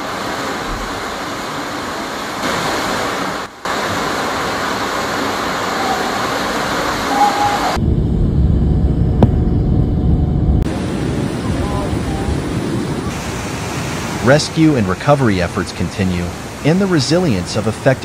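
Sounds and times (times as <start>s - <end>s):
floodwater rushing: 0.0s - 7.8s, 10.7s - 18.0s.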